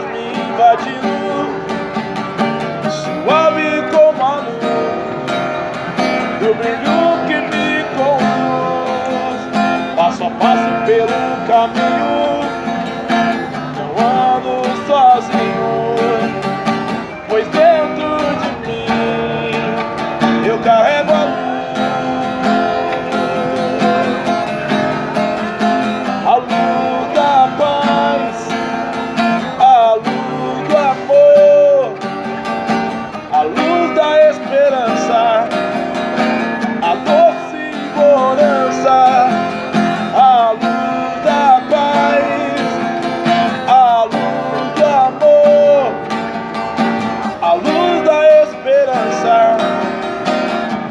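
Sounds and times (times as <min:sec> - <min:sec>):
strummed acoustic guitar: 0:00.0 - 0:50.9.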